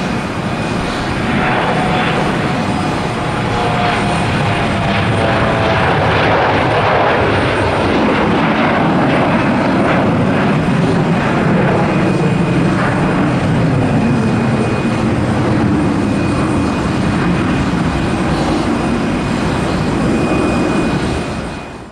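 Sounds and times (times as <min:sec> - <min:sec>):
jet airliner engines roaring: 0:00.0 - 0:21.9.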